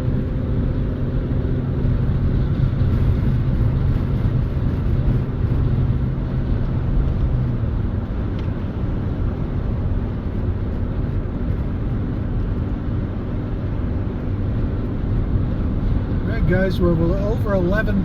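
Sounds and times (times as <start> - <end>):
car engine hum: 0.0 - 18.0
road noise rumble: 0.0 - 18.0.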